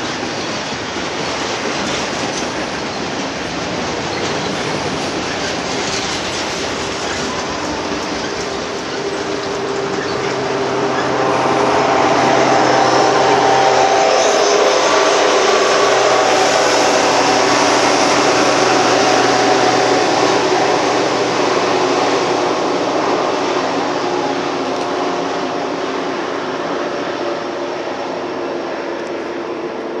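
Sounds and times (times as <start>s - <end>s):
diesel locomotive passing: 0.0s - 30.0s
freight train wheels rumbling: 0.0s - 30.0s.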